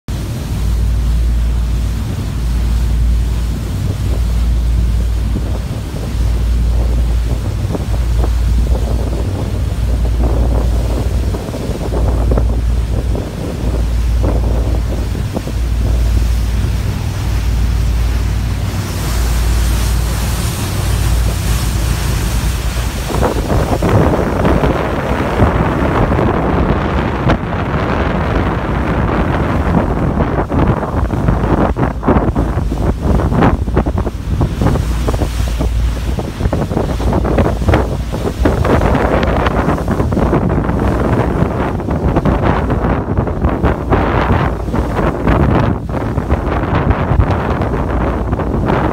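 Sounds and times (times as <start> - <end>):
choppy water rushing: 0.0 - 48.9
wind buffeting microphone: 0.1 - 48.9.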